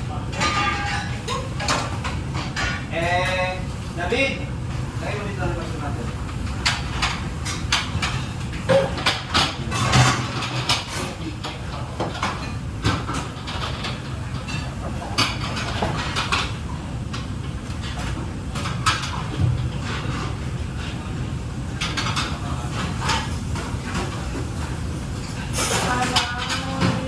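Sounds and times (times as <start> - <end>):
dishes and utensils clattering: 0.3 - 3.6, 6.5 - 27.0.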